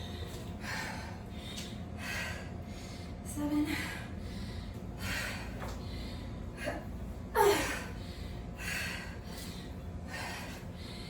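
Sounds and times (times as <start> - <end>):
woman breathing hard: 0.0 - 11.0.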